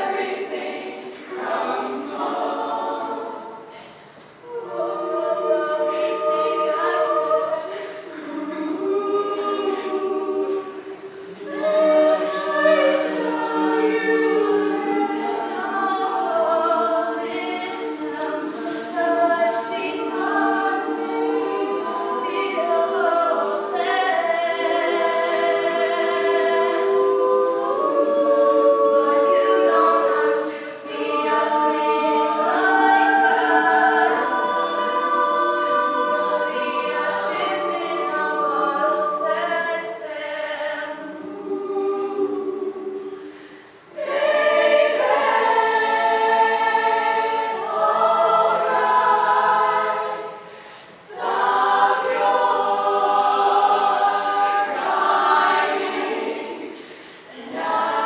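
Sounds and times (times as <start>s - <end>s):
women singing in harmony: 0.0s - 58.0s.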